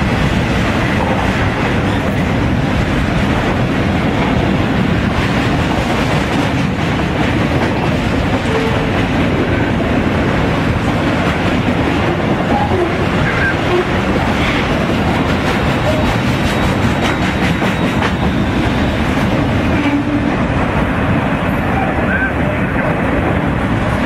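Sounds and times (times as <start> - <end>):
freight cars rumbling on rails: 0.0 - 24.0.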